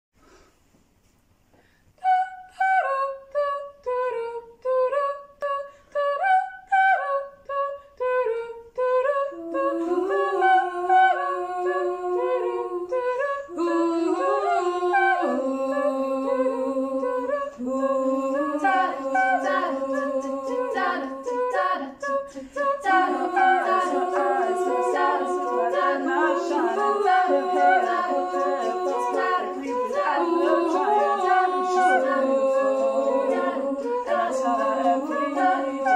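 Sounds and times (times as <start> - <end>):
a cappella group singing: 2.0 - 35.9.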